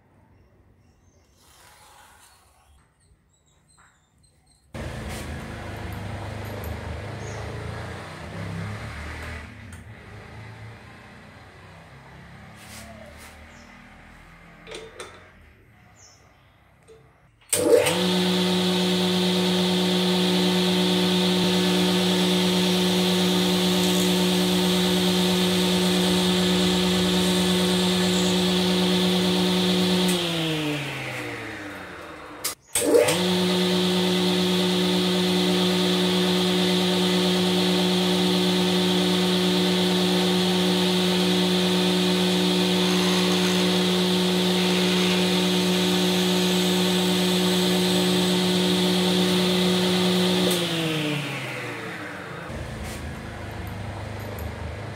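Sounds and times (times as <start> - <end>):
electric motor humming: 4.8 - 13.4, 17.5 - 54.9.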